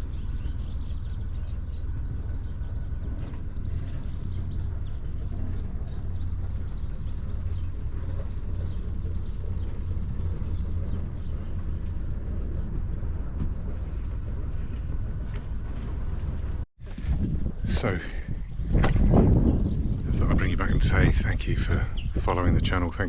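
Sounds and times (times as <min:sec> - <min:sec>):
small birds chirping: 0:00.0 - 0:15.6, 0:17.7 - 0:23.0
low rumble: 0:00.0 - 0:23.0.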